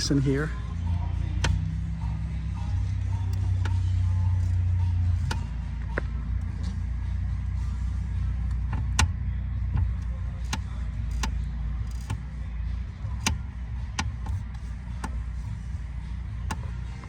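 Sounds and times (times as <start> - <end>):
car engine idling: 0.0 - 17.0
steering column clicking: 1.3 - 1.8, 2.6 - 17.0.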